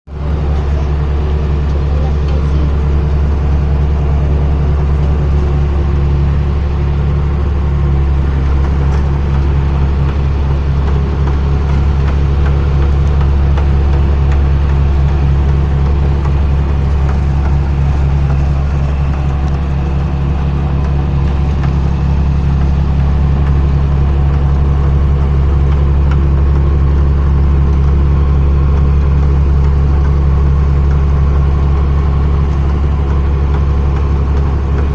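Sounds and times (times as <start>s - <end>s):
harvester engine humming: 0.1s - 34.9s.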